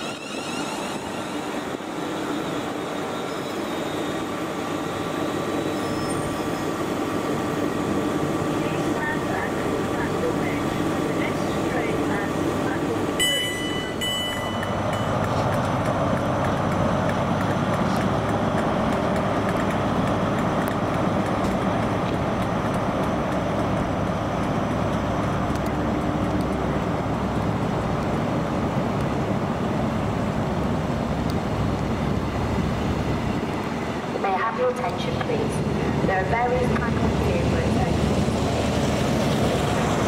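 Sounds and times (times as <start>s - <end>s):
train rumble and rush: 0.0s - 40.0s.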